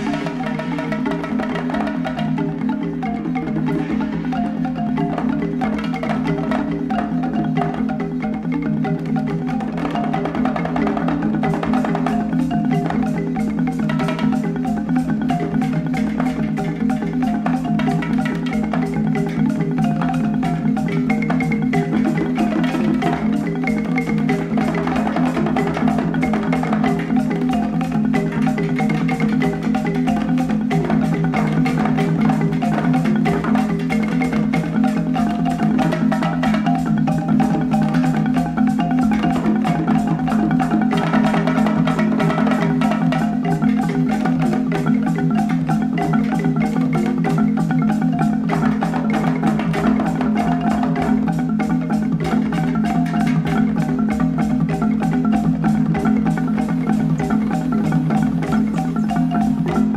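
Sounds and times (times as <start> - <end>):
instrumental music with beat: 0.0 - 59.9.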